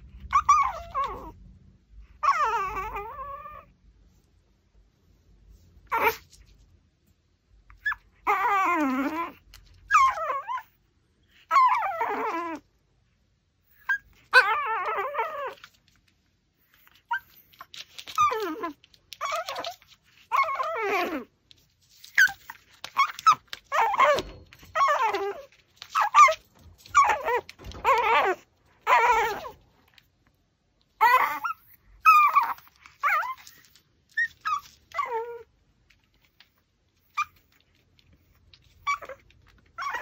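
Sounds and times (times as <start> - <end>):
dog whining: 0.0 - 1.4, 2.1 - 3.7, 5.8 - 6.4, 7.7 - 12.8, 13.6 - 15.8, 16.6 - 21.4, 22.0 - 30.0, 31.0 - 40.0.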